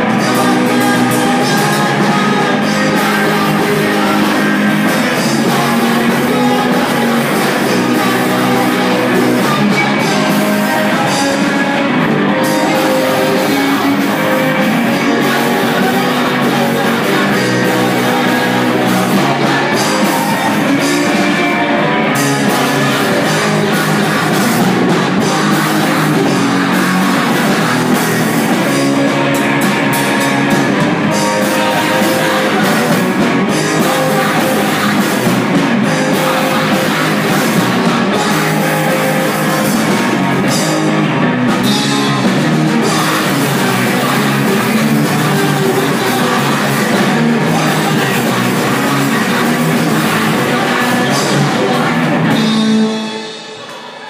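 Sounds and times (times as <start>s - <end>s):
rock music with singing: 0.0s - 54.0s.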